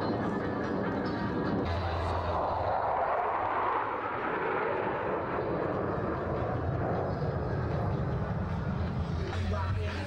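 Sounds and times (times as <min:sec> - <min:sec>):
jet roar: 0:00.0 - 0:10.0.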